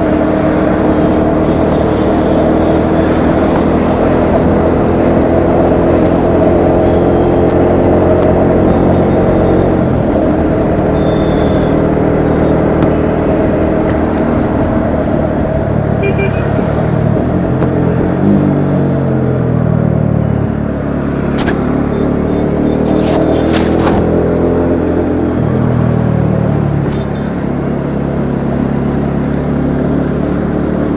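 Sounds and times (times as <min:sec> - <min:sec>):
motorcycle engine running: 0:00.0 - 0:30.9
road noise: 0:00.0 - 0:30.9.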